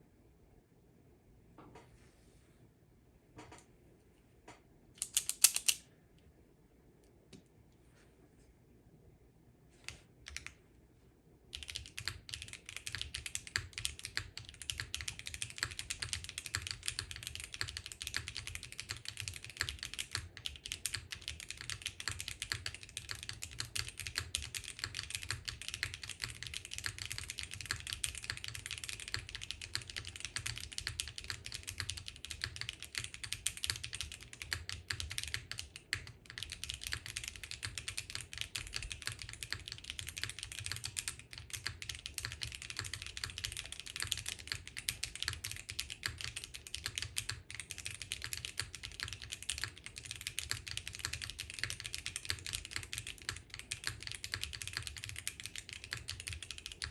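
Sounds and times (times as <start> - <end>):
mechanical keyboard typing: 5.0 - 5.8, 10.3 - 10.6, 11.5 - 56.9.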